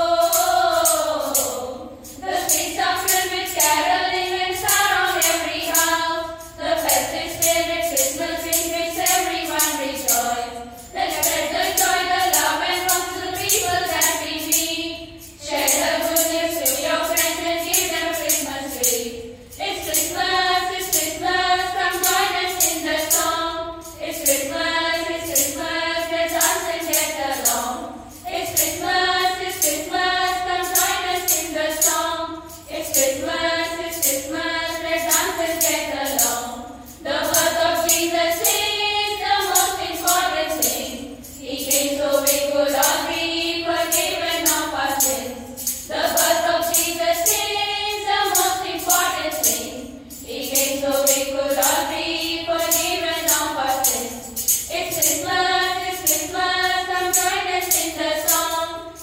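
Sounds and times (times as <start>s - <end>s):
steady jingling beat: 0.0s - 59.0s
women and girls singing: 0.0s - 59.0s.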